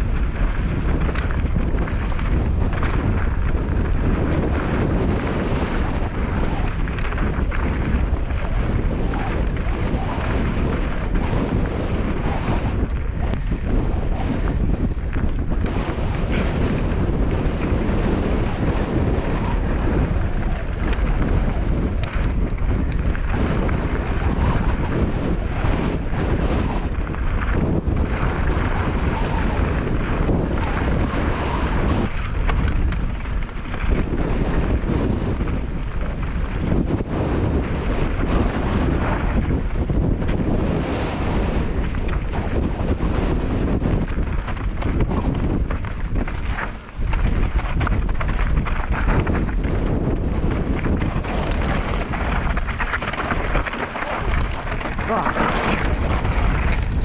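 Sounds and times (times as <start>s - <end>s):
bike clicks: 0.0s - 57.0s
tyre noise on dirt trail: 0.0s - 57.0s
wind buffeting microphone: 0.0s - 57.0s.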